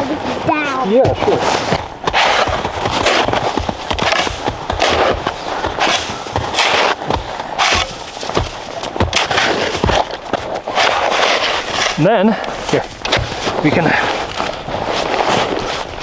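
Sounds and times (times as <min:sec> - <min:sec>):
shovel crunching wet snow: 0:00.0 - 0:16.0.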